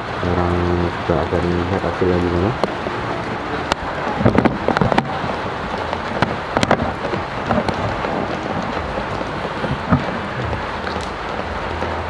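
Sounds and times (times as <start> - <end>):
rain falling on concrete: 0.0 - 12.0.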